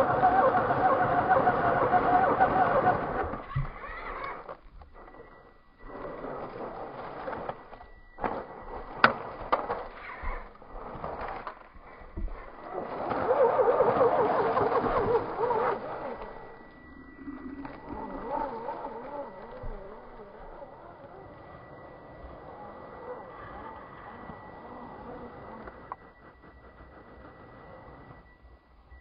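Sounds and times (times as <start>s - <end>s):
electric motor and gears whining: 0.0s - 28.5s.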